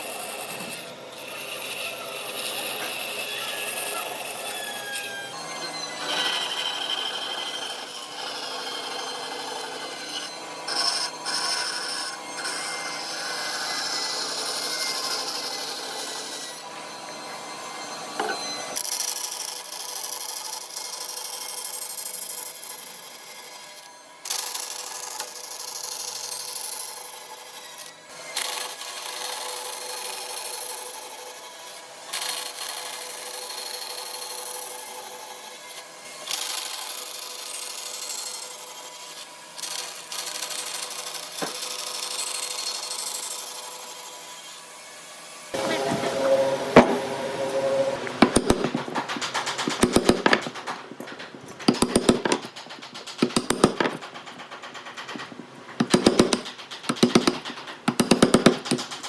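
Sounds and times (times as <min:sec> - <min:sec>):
wood rasping on a lathe: 0:00.0 - 0:44.6, 0:45.5 - 0:59.0.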